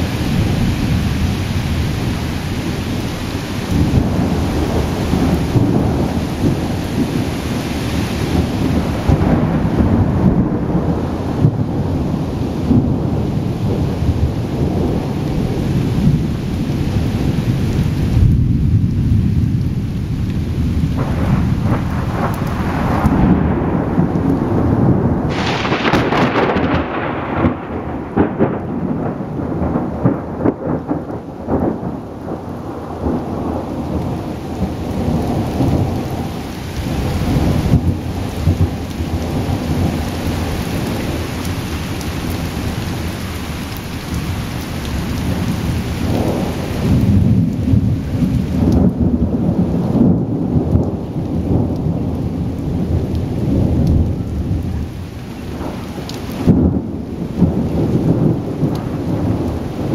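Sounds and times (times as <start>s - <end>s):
steady rain: 0.0s - 59.9s
thunder rumbling: 0.0s - 59.9s.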